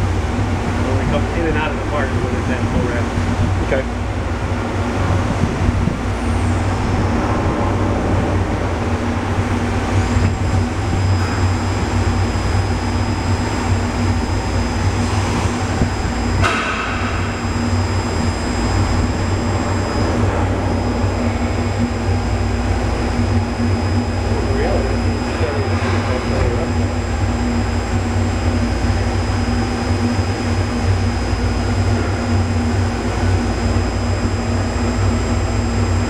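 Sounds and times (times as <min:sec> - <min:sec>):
machine hum: 0:00.0 - 0:36.0
thin high whine: 0:00.0 - 0:36.0.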